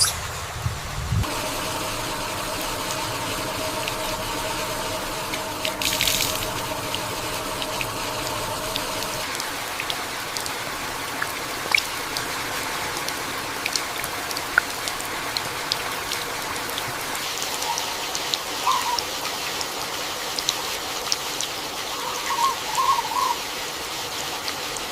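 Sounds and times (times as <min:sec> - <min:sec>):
heavy rain on foliage: 0:01.2 - 0:24.9
sharp water drips: 0:01.2 - 0:24.9.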